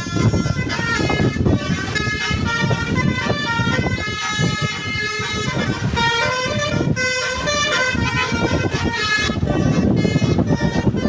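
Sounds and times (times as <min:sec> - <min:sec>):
multi-tone bus horn tune: 0:00.0 - 0:11.0.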